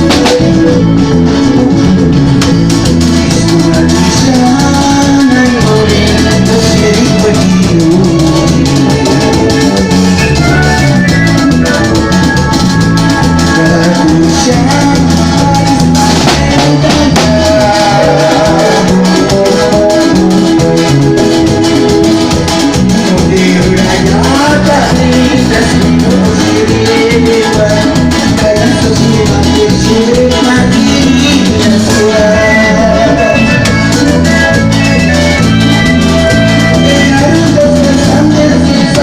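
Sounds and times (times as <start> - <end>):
band playing latin dance music: 0.0 - 39.0.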